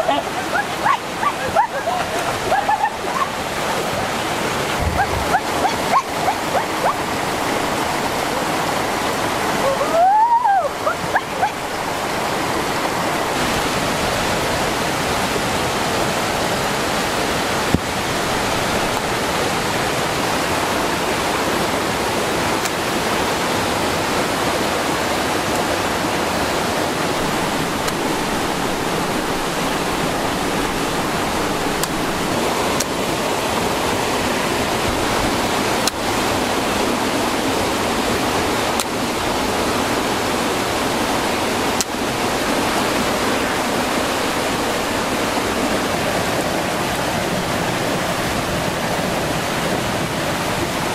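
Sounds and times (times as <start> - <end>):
river rushing over rocks: 0.0 - 50.9.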